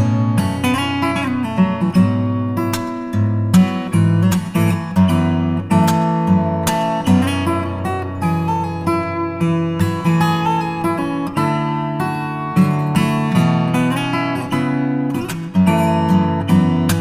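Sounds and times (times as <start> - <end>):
instrumental guitar music: 0.0 - 17.0.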